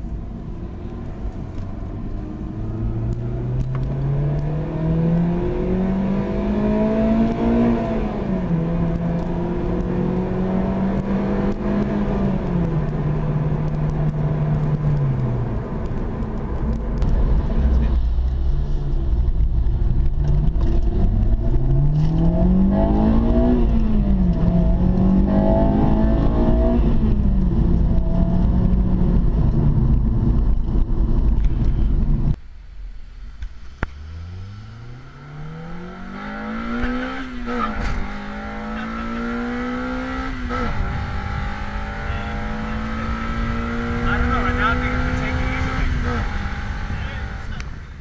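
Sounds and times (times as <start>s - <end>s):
low road rumble: 0.0s - 48.0s
car engine revving through gears: 0.4s - 32.4s, 33.6s - 47.8s.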